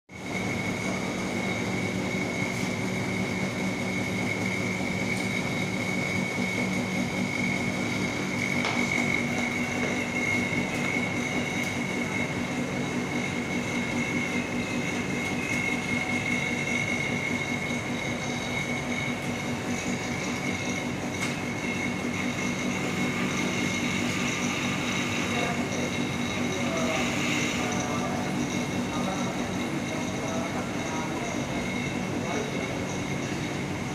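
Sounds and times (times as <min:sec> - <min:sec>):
vacuum pump high whine: 0:00.1 - 0:33.9.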